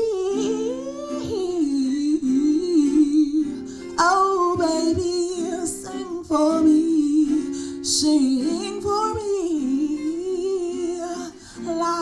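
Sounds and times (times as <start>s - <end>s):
acoustic guitar: 0.0s - 12.0s
woman singing: 0.0s - 12.0s.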